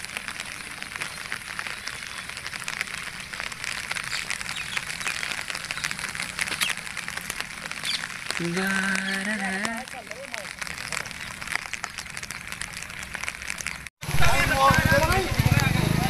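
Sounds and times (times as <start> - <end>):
floodwater rushing and splashing: 0.0 - 16.0.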